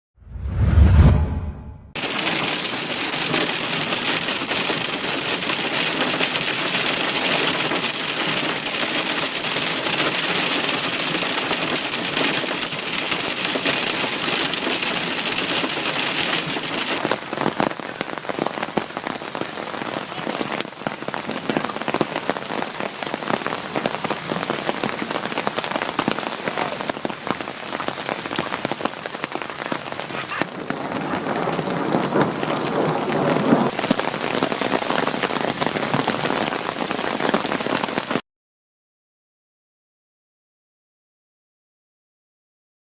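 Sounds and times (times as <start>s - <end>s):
hail clattering on surfaces: 2.0s - 38.2s.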